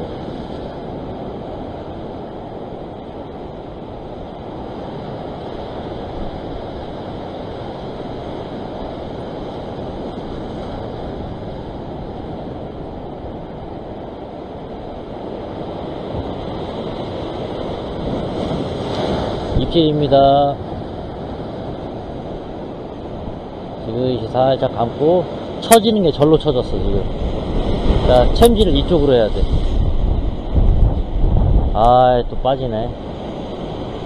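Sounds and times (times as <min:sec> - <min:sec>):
sea surf breaking on rocks: 0:00.0 - 0:34.0.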